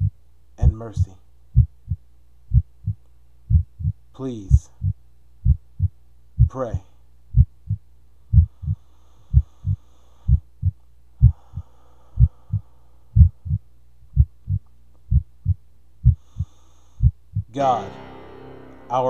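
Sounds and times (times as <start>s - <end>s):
heartbeat thumps: 0.0s - 17.6s
low steady hum: 0.0s - 19.0s.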